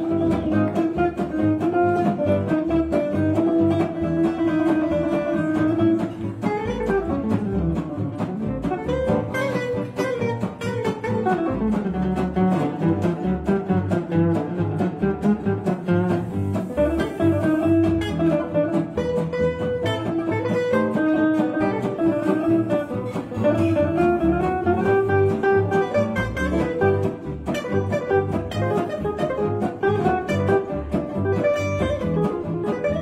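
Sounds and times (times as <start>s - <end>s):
acoustic guitars chopping chords: 0.0s - 33.0s
bowed low string melody: 0.0s - 33.0s.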